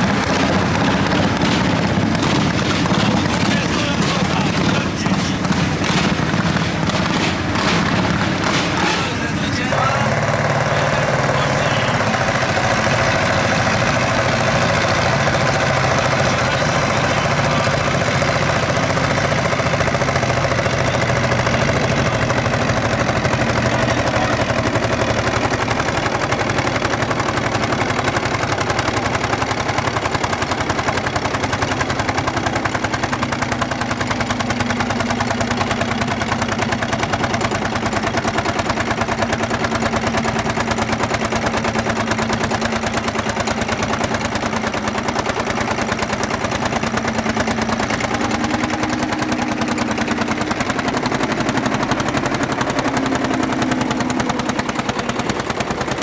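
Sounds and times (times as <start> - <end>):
diesel tractor engine running: 0.0 - 56.0
two-stroke tractor engine under load: 0.0 - 56.0.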